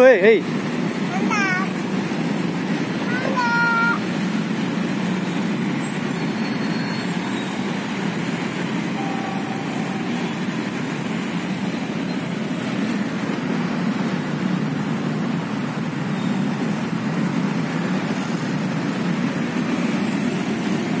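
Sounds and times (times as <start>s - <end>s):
motorbike engines: 0.0s - 21.0s
road traffic noise: 0.0s - 21.0s
truck engines: 0.0s - 21.0s.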